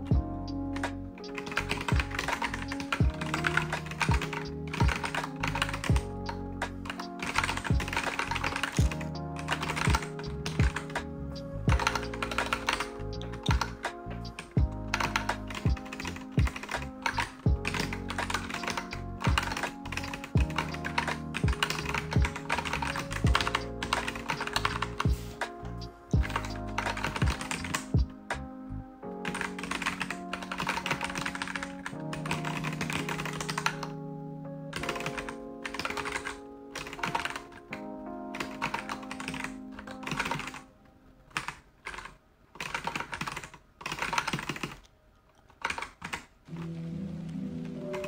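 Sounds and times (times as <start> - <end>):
lofi background music: 0.0 - 41.2, 46.5 - 48.0
typing on computer keyboard: 0.7 - 11.1, 11.7 - 25.6, 26.2 - 28.1, 29.2 - 34.0, 34.7 - 40.7, 41.3 - 46.7.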